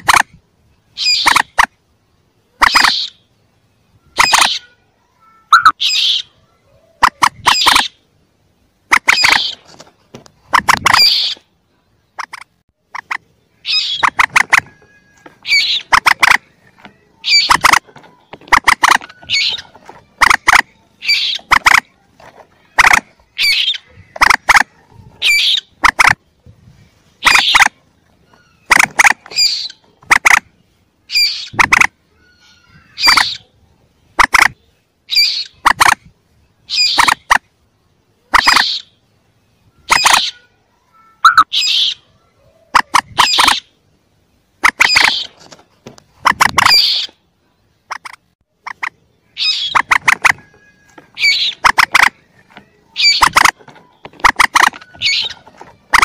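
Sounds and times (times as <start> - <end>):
bird chick calls: 0.0 - 1.8, 2.5 - 3.4, 4.1 - 4.8, 5.5 - 8.1, 8.9 - 9.7, 10.4 - 11.5, 12.1 - 26.3, 27.2 - 37.4, 38.2 - 39.0, 39.8 - 40.5, 41.2 - 43.8, 44.6 - 45.4, 46.1 - 47.2, 47.8 - 56.0.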